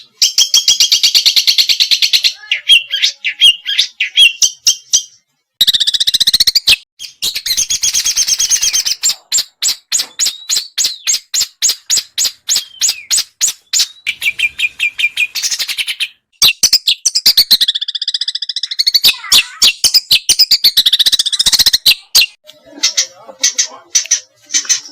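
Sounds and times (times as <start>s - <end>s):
songbird singing harsh rapid song: 0.1s - 4.9s, 5.6s - 24.9s.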